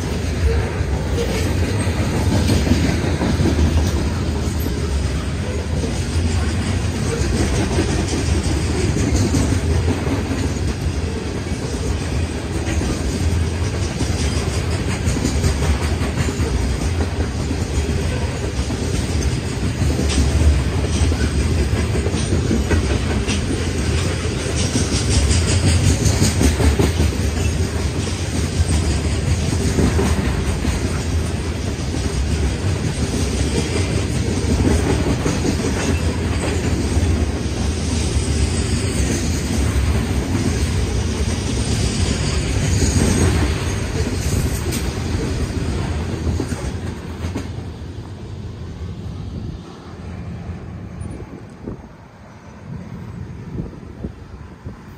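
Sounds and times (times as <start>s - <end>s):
clickety-clack over rail joints: 0.0s - 54.9s
train wheels rumbling on rails: 0.0s - 54.9s.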